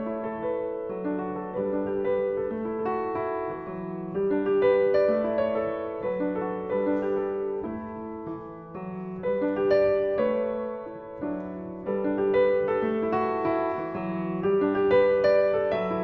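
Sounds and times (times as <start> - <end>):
solo jazz piano: 0.0 - 16.0.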